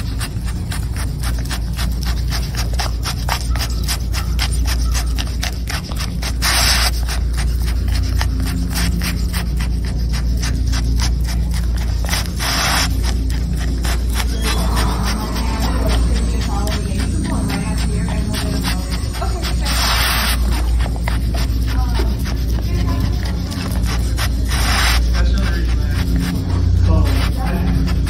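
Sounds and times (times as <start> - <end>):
steady low rumble: 0.0 - 28.0
tongue lapping wet clicks: 0.0 - 28.0.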